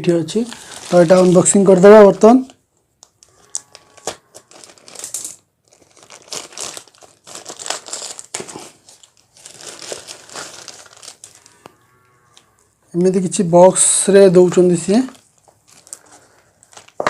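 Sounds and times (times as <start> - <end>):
packaging crinkling and tearing: 0.1 - 12.6, 14.8 - 17.0.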